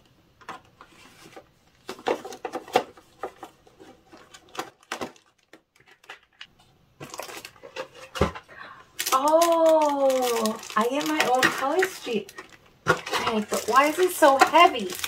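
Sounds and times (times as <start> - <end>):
packets clicking and rustling: 1.2 - 15.0.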